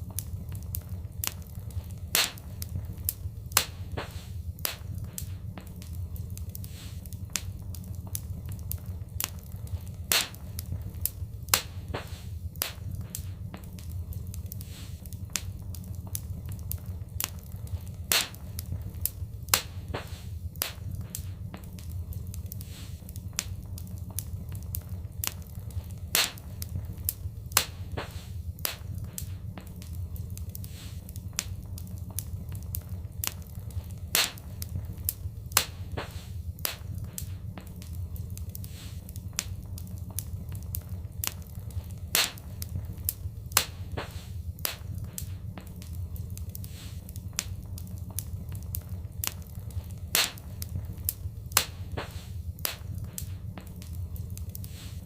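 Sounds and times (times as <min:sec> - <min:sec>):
low rumble: 0:00.0 - 0:54.6
wood fire crackling and popping: 0:00.0 - 0:55.0.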